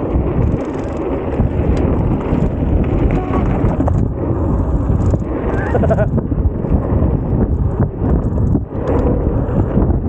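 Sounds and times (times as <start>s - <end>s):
bike clicks and rattles: 0.0s - 10.0s
wind rushing over microphone: 0.0s - 10.0s.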